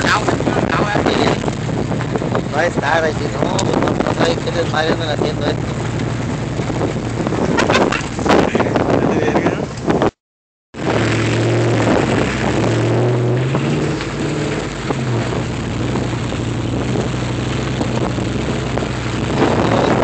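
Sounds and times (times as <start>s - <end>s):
vehicle engine humming: 0.0s - 10.0s, 10.8s - 20.0s
tyre and wind noise: 0.0s - 10.2s, 10.8s - 20.0s.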